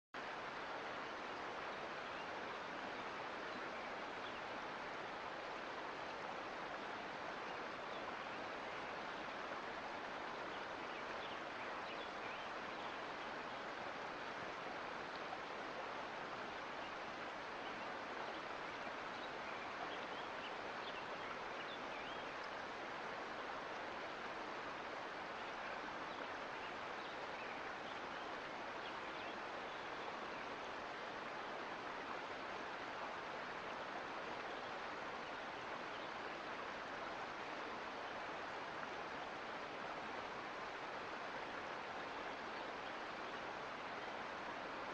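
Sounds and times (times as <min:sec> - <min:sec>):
creek flowing over rocks: 0:00.2 - 0:44.9.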